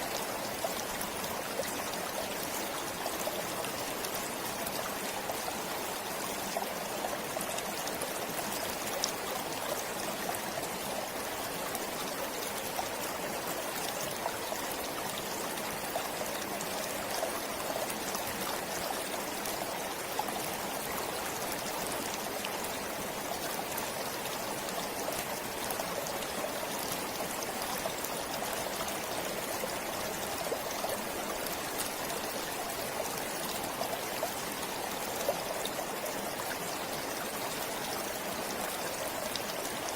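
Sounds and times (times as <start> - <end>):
stream water splashing over stones: 0.0 - 39.9.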